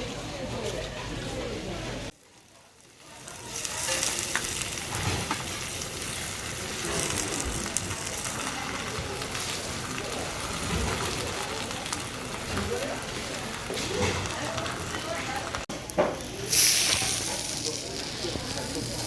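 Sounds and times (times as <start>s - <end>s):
pancakes sizzling in oil: 2.2s - 19.0s.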